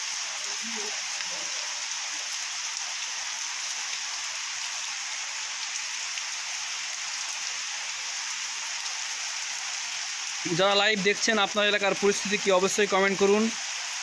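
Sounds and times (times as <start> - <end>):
heavy rain on water: 0.0 - 14.0.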